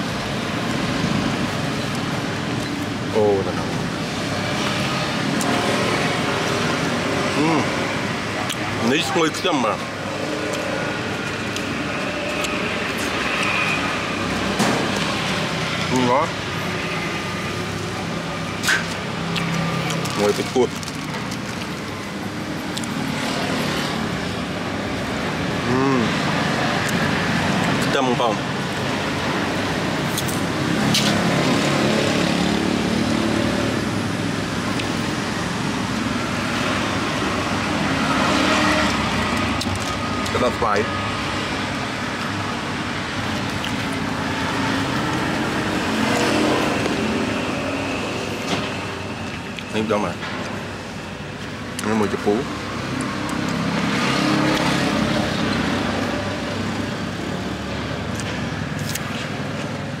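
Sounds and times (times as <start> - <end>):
road traffic noise: 0.0 - 60.0.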